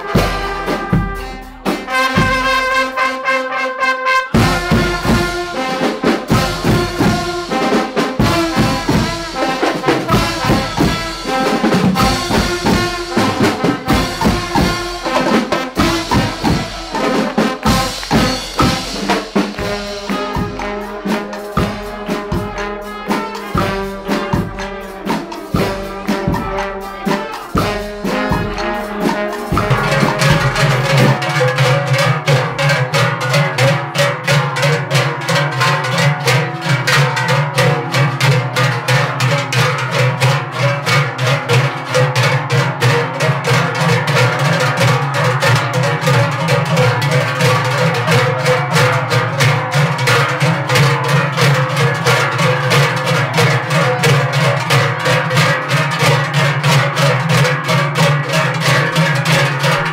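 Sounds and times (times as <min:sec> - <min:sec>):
drums and cymbals: 0:00.0 - 0:03.1, 0:04.3 - 0:59.9
brass instruments playing: 0:00.0 - 0:36.7, 0:37.7 - 0:59.9.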